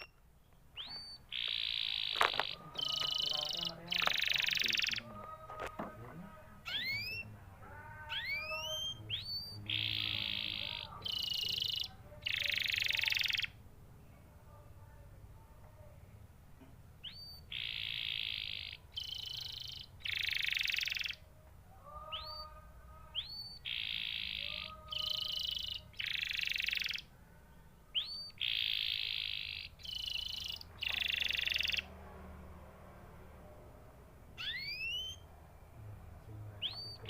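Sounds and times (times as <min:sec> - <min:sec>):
canary singing with trills: 0:00.0 - 0:14.3, 0:16.9 - 0:32.0, 0:33.6 - 0:37.0.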